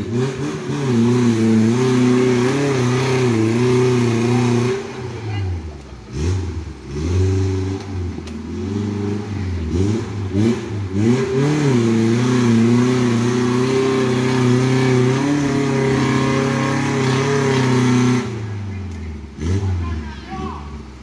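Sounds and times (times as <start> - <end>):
engine revving hard: 0.0 - 18.6, 19.3 - 20.0.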